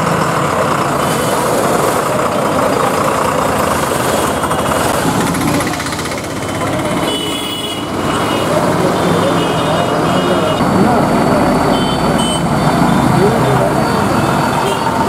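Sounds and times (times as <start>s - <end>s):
diesel bus engines droning: 0.0s - 15.0s.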